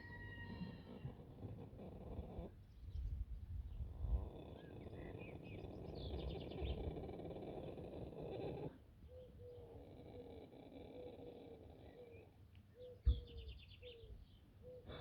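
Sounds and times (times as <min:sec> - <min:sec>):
small birds chirping: 0:02.0 - 0:10.4, 0:11.0 - 0:14.9.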